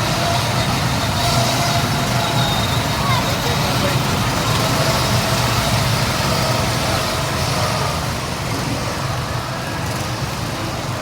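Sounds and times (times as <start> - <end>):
go-kart engines running: 0.0 - 11.0.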